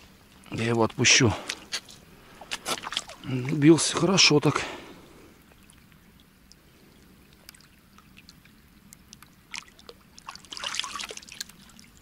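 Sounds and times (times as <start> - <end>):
light rain ticking on water: 0.0 - 12.0
shallow water splashing: 0.0 - 12.0.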